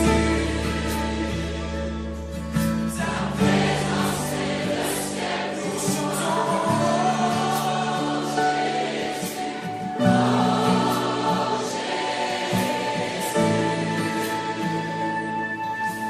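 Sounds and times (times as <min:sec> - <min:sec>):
choir singing worship music: 0:00.0 - 0:16.0.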